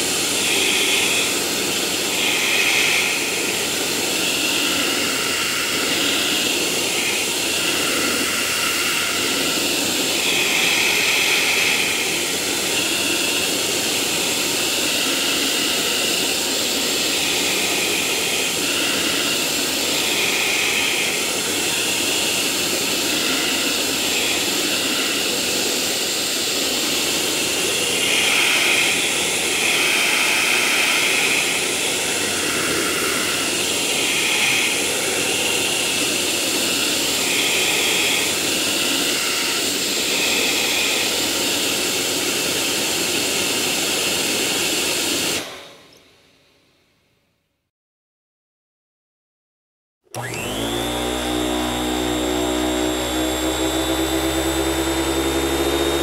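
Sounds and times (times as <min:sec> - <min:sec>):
vacuum cleaner running: 0:00.0 - 0:46.0, 0:50.1 - 0:56.0.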